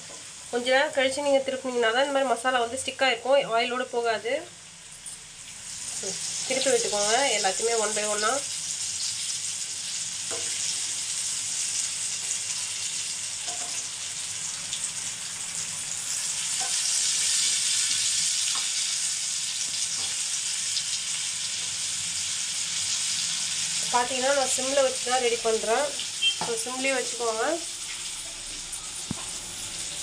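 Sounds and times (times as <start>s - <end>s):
slices sizzling in hot oil: 0.0s - 30.0s.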